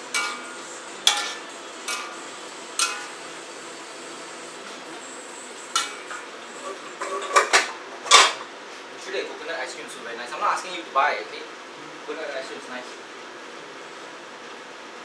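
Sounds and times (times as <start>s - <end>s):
steady frying hiss: 0.0s - 15.0s.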